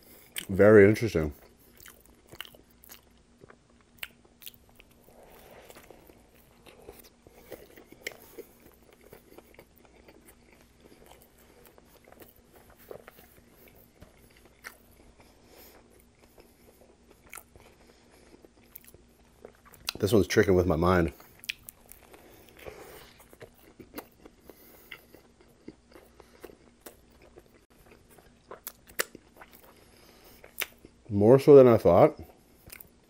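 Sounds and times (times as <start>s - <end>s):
chewing sandwich: 0.0s - 0.6s, 1.3s - 20.2s, 21.1s - 31.1s, 32.2s - 33.0s
faint steady hum: 0.0s - 33.0s.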